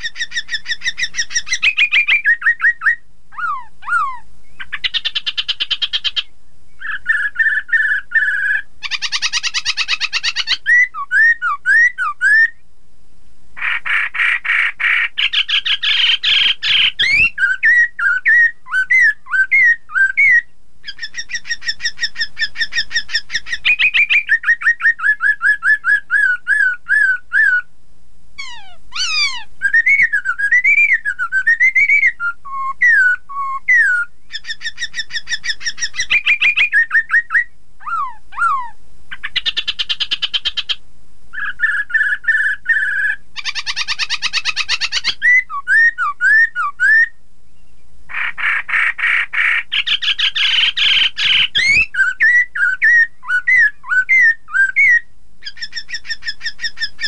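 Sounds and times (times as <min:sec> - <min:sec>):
bird singing whistled phrases: 0:00.0 - 0:12.6, 0:14.9 - 0:27.7, 0:28.4 - 0:40.8, 0:41.4 - 0:48.3, 0:49.0 - 0:57.0.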